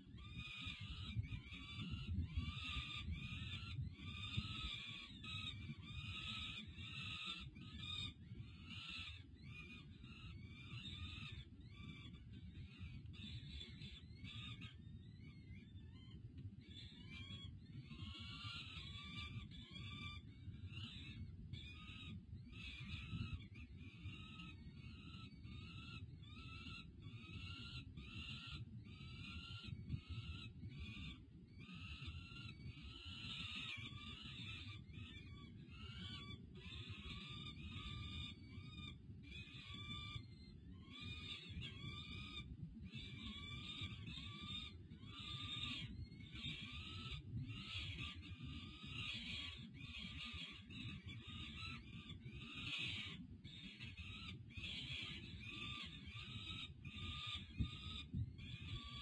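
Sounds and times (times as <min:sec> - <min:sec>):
falcon chicks squealing calls: 0:00.0 - 0:59.0.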